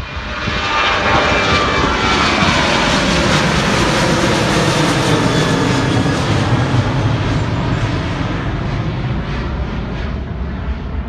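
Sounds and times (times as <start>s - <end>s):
jet engine whine: 0.0s - 11.0s
jet engines roaring: 0.0s - 11.0s.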